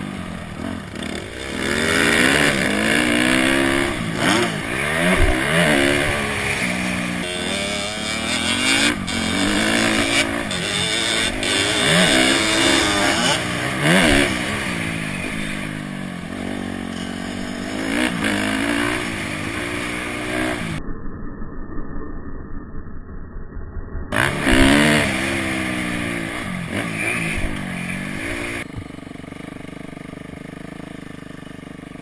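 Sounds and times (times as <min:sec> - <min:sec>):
motorcycle engine revving: 0:00.0 - 0:20.8, 0:24.1 - 0:32.0.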